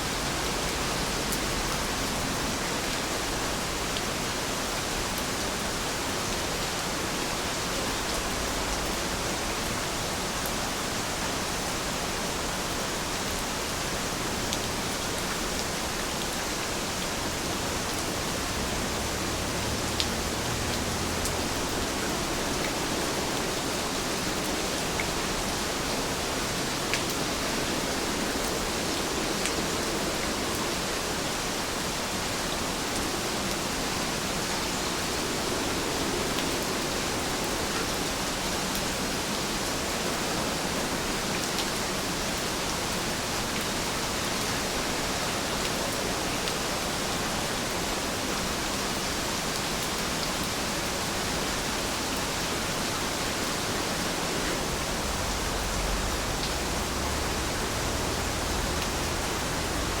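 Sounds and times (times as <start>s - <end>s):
steady rain: 0.0s - 60.0s.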